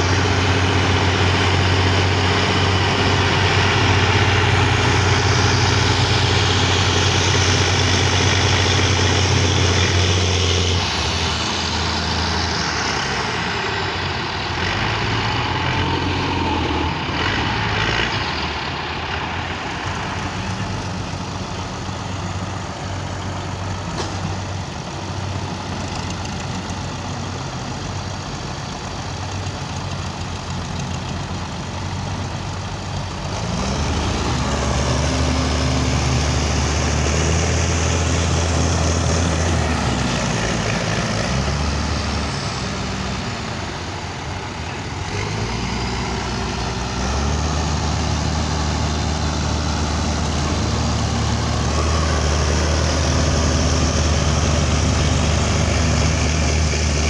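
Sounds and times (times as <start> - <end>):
tractor diesel engines working: 0.0 - 57.0.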